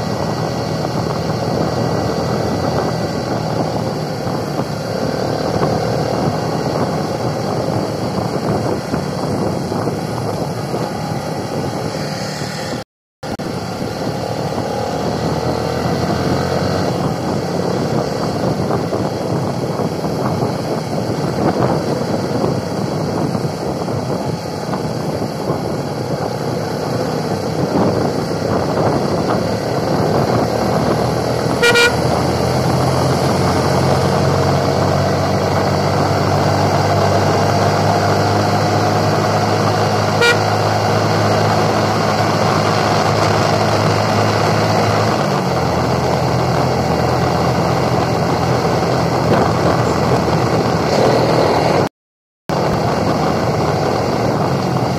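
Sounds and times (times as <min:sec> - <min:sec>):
motorcycle engine hum: 0:00.0 - 0:51.9, 0:52.5 - 0:54.9
wind and road noise: 0:00.0 - 0:51.9, 0:52.5 - 0:54.9.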